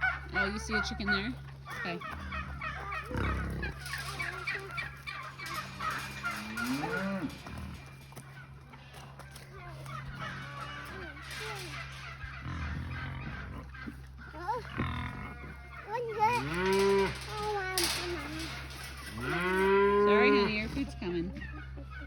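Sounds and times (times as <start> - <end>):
cattle mooing: 0.0 - 21.1
steady low hum: 0.0 - 22.0.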